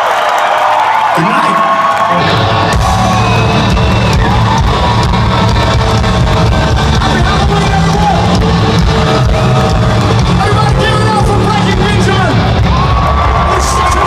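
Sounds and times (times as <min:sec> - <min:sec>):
live metal band playing loudly: 0:02.2 - 0:14.0.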